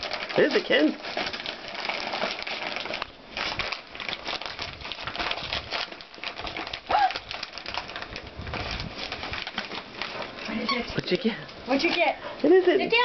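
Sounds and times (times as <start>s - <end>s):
wrapping paper crinkling and tearing: 0.0s - 12.6s.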